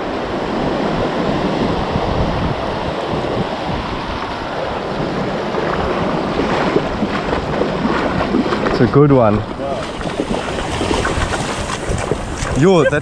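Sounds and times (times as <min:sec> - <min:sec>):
surf washing over sand: 0:00.0 - 0:13.0
wind buffeting microphone: 0:00.0 - 0:13.0.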